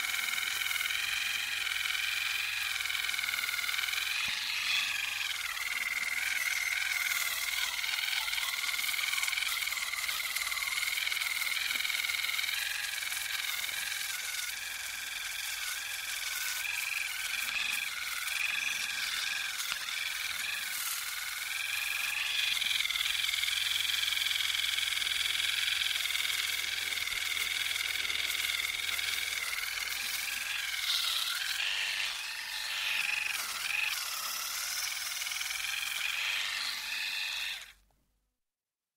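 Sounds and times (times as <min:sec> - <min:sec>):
electric toothbrush buzzing: 0:00.0 - 0:37.8.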